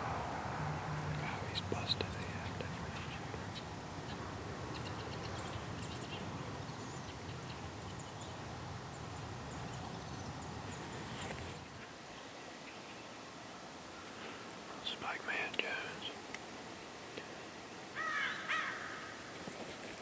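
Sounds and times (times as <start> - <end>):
low background hiss and rumble: 0.0 - 19.3.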